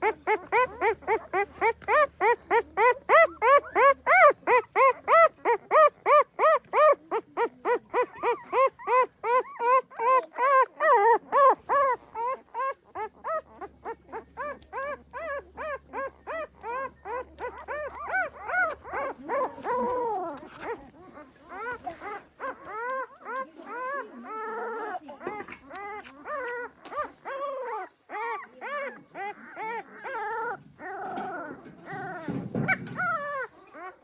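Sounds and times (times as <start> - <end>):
puppies whimpering yelps: 0.0 - 34.0.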